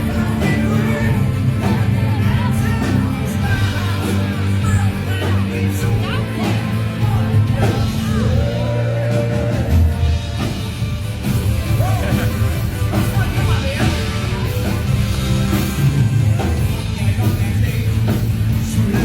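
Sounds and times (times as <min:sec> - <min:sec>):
distorted guitar and bass: 0:00.0 - 0:19.0
heavy metal band playing: 0:00.0 - 0:19.0
voices singing and yelling: 0:00.0 - 0:19.0.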